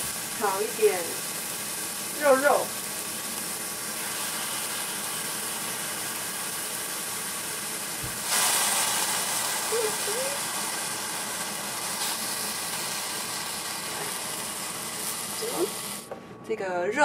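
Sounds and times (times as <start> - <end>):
meat sizzling in frying pan: 0.0 - 16.1.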